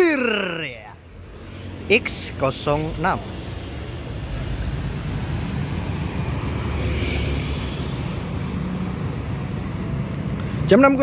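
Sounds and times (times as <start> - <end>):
road traffic engine drone: 0.0 - 11.0.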